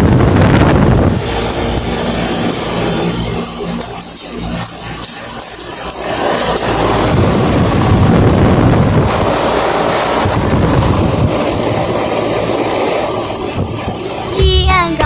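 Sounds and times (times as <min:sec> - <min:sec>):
air conditioner fan rushing: 0:00.0 - 0:15.0
faint high whine: 0:00.0 - 0:15.0
low hum: 0:00.0 - 0:15.0.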